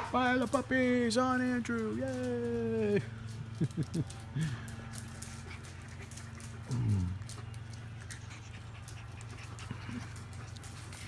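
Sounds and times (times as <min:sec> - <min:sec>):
puppies scuffling: 0:00.0 - 0:11.0
steady low hum: 0:00.0 - 0:11.0.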